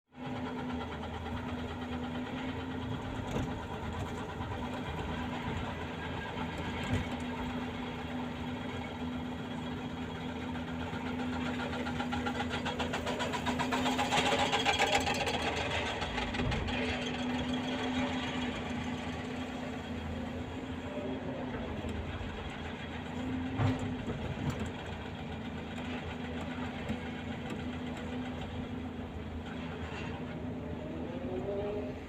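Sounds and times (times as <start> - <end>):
excavator diesel engine running: 0.1 - 32.0.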